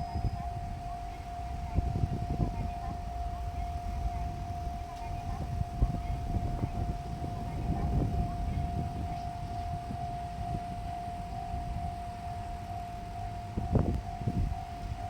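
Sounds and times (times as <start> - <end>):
diesel train rumble: 0.0 - 15.0
level crossing alarm tone: 0.0 - 15.0.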